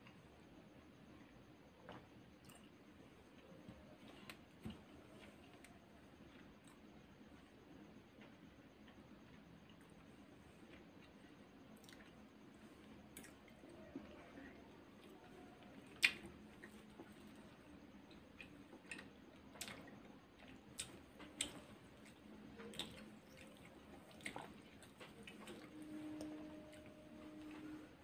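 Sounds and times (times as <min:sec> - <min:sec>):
soft chewing: 0:00.0 - 0:28.0.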